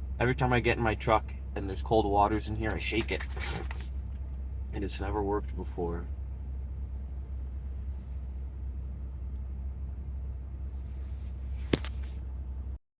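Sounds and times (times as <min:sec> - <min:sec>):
truck engine idling: 0:00.0 - 0:12.8.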